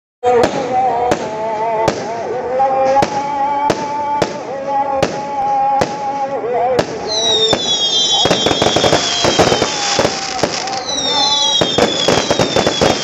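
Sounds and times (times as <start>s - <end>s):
fireworks bangs: 0.2s - 13.0s.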